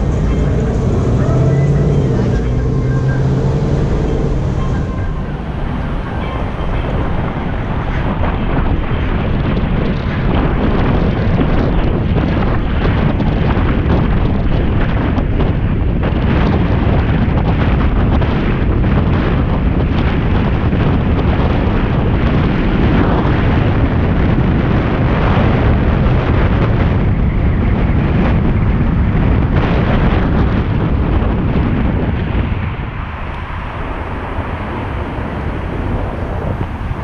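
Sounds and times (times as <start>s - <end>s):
road and engine noise: 0.0s - 37.0s
wind rushing over microphone: 0.0s - 37.0s.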